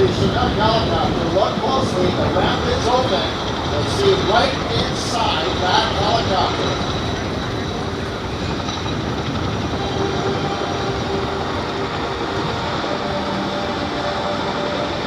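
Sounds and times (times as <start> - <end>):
faint whining tones: 0.0 - 15.0
helicopter rotor rumble: 0.0 - 15.0.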